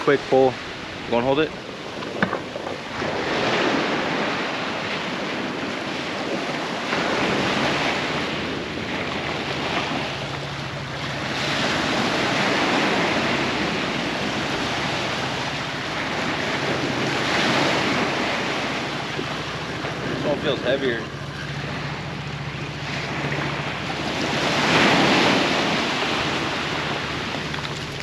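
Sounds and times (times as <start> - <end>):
surf breaking on rocky shore: 0.0 - 28.0
wind buffeting microphone: 0.0 - 28.0.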